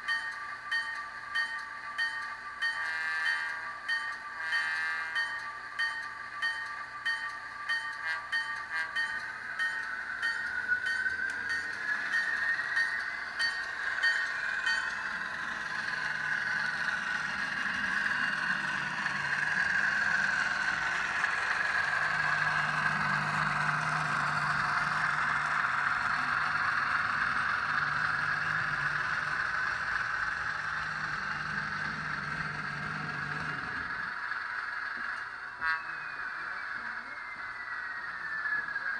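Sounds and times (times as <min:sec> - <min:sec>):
model train diesel engine sound: 0:00.0 - 0:38.9
model train wheels humming on rails: 0:00.0 - 0:38.9.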